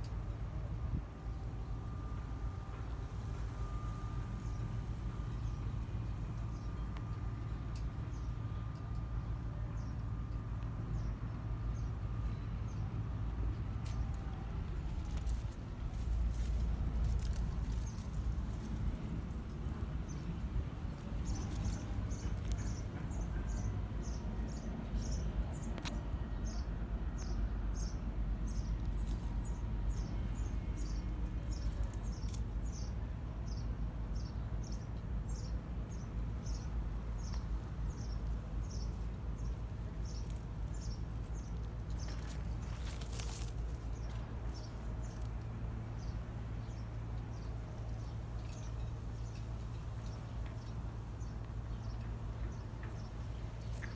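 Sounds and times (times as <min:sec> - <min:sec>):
steady low rumble: 0:00.0 - 0:53.9.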